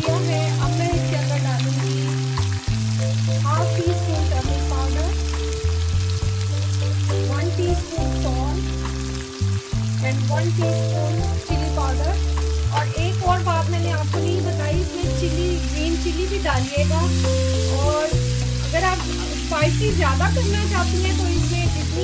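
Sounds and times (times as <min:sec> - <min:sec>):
background music with deep bass: 0:00.0 - 0:22.0
vegetables sizzling in oil: 0:00.0 - 0:22.0.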